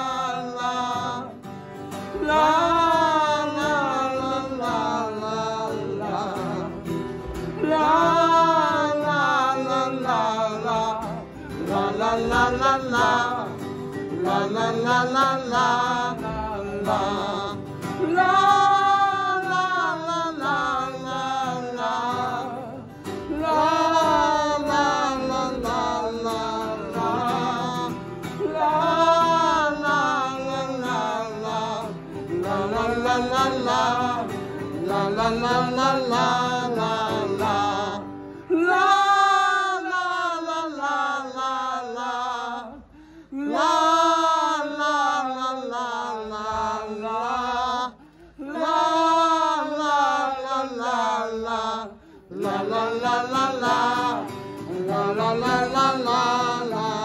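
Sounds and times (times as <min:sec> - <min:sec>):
man singing long held notes: 0:00.0 - 0:57.0.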